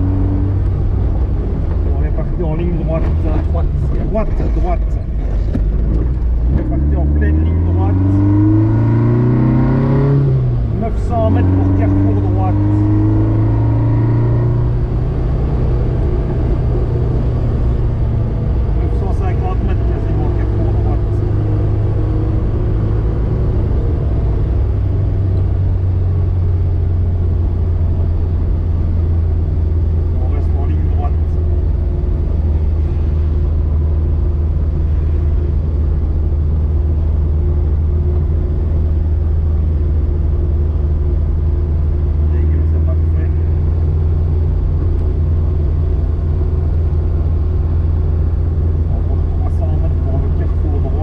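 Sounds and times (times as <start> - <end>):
car engine running: 0.0 - 51.0
road rumble: 0.0 - 51.0.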